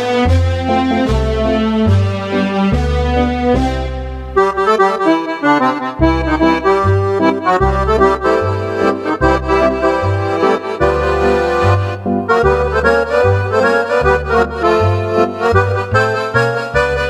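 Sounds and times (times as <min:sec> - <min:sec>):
accordion bass notes: 0:00.0 - 0:17.0
accordion playing a tune: 0:00.0 - 0:17.0.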